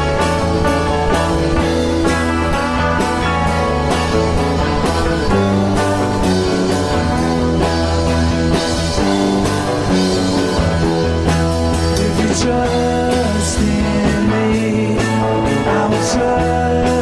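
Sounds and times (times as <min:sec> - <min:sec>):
rock music with guitars and drums: 0:00.0 - 0:17.0.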